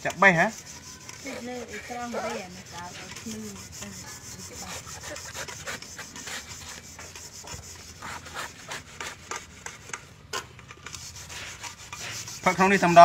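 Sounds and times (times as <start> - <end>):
blade scraping coconut: 0.0 - 13.0.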